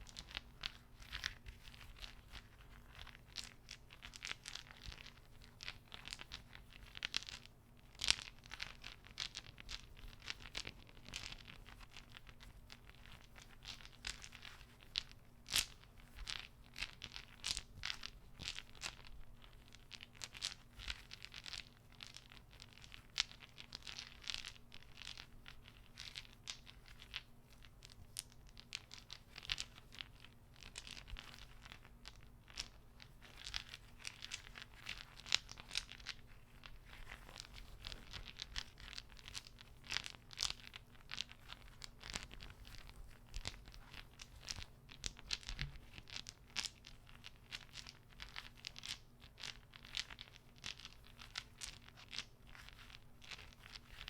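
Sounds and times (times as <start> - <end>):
wooden beads clacking: 0.0 - 54.0.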